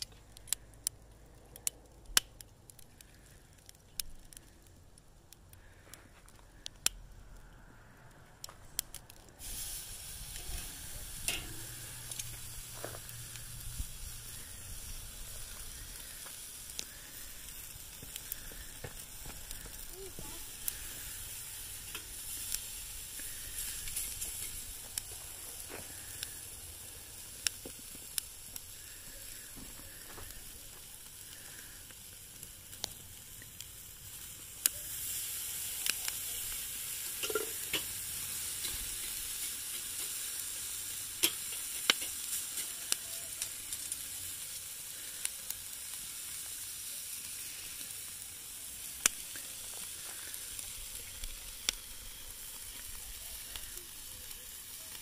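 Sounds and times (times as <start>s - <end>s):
food sizzling on grill: 9.0s - 55.0s.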